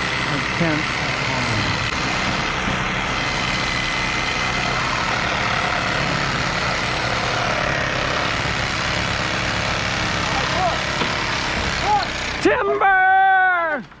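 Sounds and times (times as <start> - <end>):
engine humming: 0.0 - 13.1.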